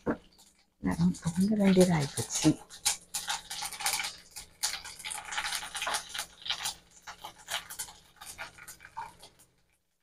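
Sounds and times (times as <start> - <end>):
spices sizzling in hot oil: 0.0 - 10.0.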